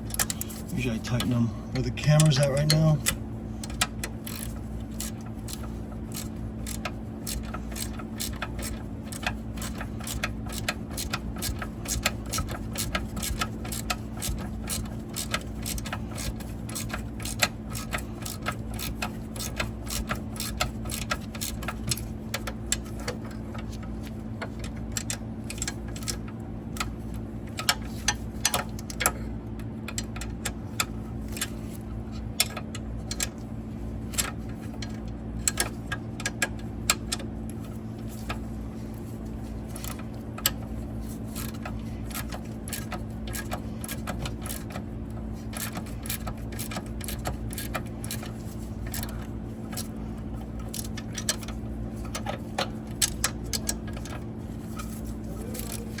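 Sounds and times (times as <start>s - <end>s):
ratchet clicking: 0.0s - 1.3s, 2.1s - 29.2s, 29.9s - 33.5s, 34.1s - 56.0s
steady low hum: 0.0s - 56.0s.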